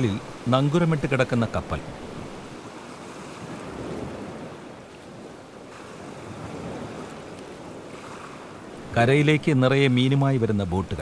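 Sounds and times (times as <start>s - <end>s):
sea waves: 0.0s - 11.0s
wind: 0.0s - 11.0s.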